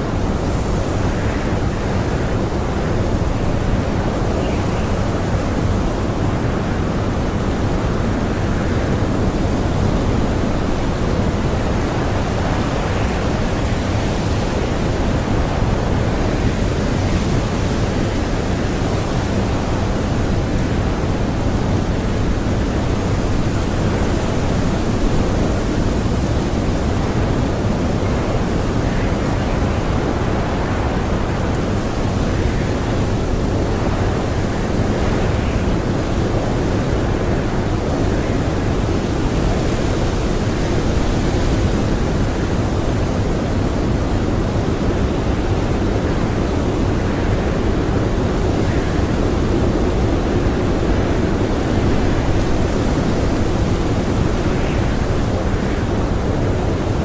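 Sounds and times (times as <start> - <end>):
blizzard wind blowing hard: 0.0 - 57.0.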